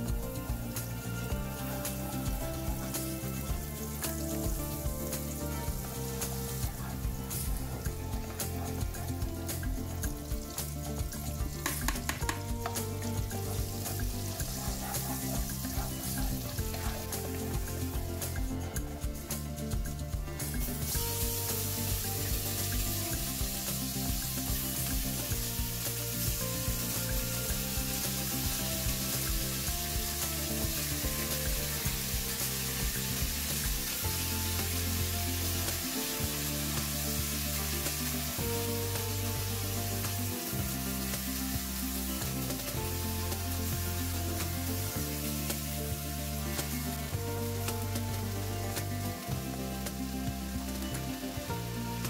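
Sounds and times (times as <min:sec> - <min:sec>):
background music: 0:00.0 - 0:52.0
chicken sizzling in hot oil: 0:00.0 - 0:52.0.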